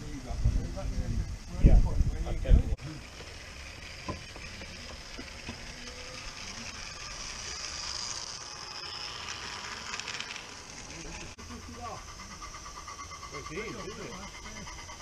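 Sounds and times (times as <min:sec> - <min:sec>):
model train hissing: 0:02.2 - 0:15.0
wheels clicking on track: 0:02.8 - 0:15.0.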